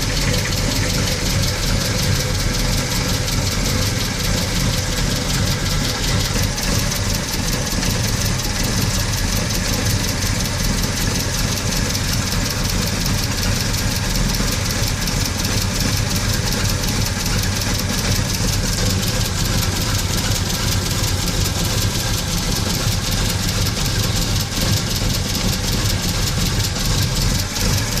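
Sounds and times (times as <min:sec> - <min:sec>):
car engine idling: 0:00.0 - 0:28.0
rapid ticking engine knock: 0:00.0 - 0:28.0.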